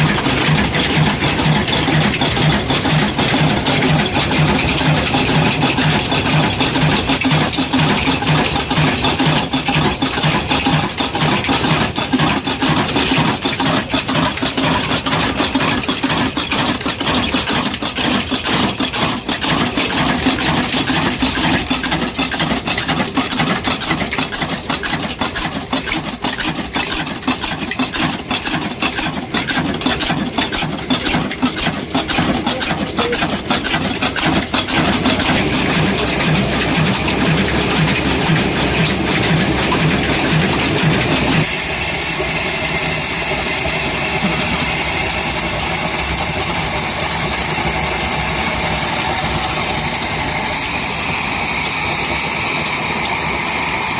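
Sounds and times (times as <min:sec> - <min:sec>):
old engine knocking and hissing: 0:00.0 - 0:53.9.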